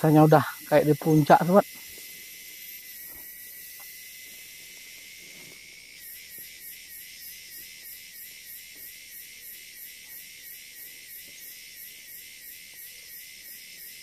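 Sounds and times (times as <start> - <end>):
high-pitched insect drone: 0.0 - 14.0
rhythmic pulsing insect call: 0.0 - 14.0.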